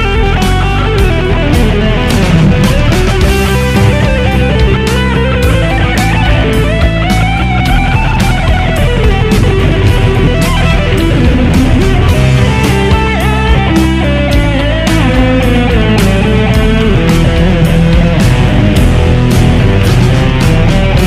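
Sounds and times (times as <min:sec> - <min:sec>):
backing track with steady beat: 0:00.0 - 0:21.0
distorted electric guitar lead: 0:00.0 - 0:21.0.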